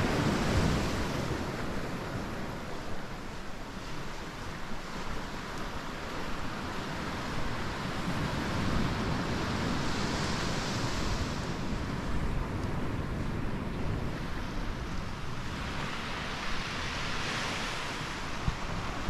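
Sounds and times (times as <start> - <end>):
ocean waves washing in: 0.0 - 19.0.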